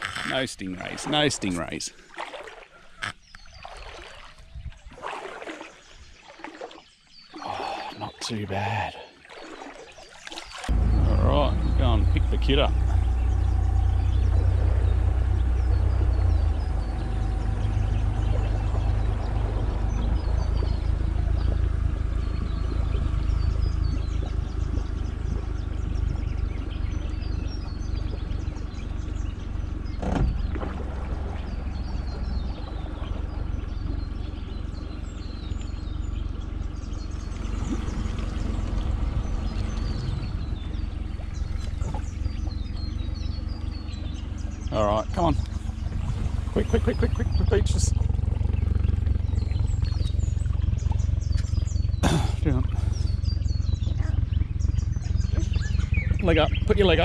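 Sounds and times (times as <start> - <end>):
birds chirping: 0.0 - 57.0
outboard motor running: 0.0 - 57.0.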